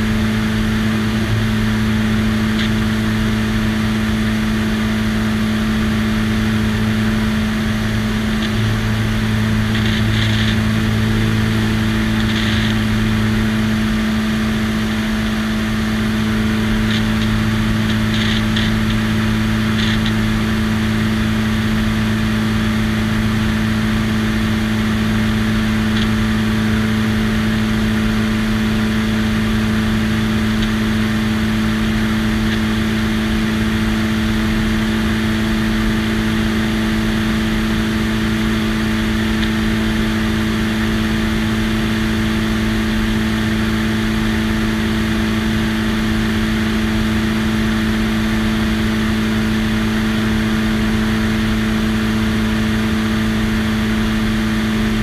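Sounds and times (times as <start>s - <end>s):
plane engine humming: 0.0s - 55.0s.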